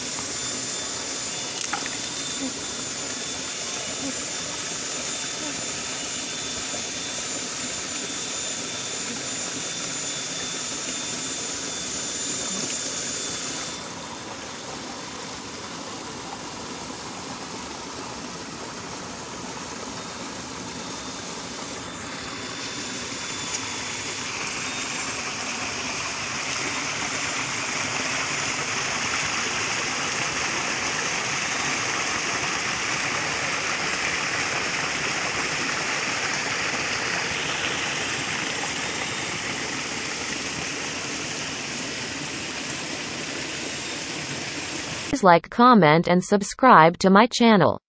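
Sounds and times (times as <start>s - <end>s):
stream rushing: 0.0s - 45.1s.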